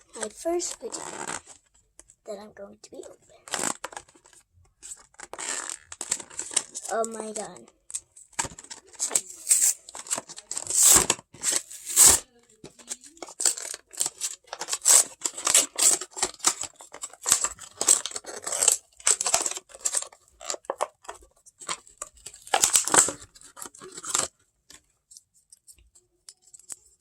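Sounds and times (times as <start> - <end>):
packaging crinkling and tearing: 0.1 - 1.7, 3.4 - 24.3.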